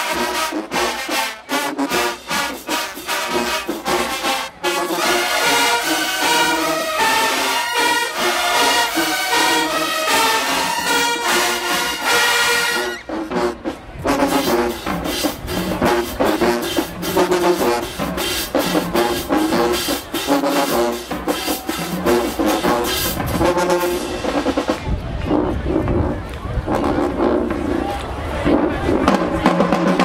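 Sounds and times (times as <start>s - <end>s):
marching band brass: 0.0s - 30.0s.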